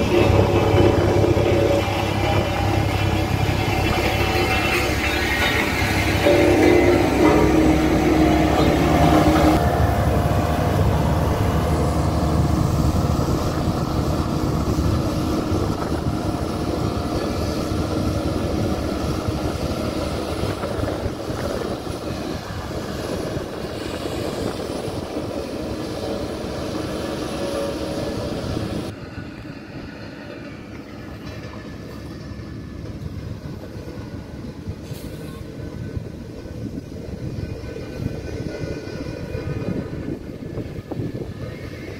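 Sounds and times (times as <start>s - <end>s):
road roller diesel engine: 0.0s - 41.9s.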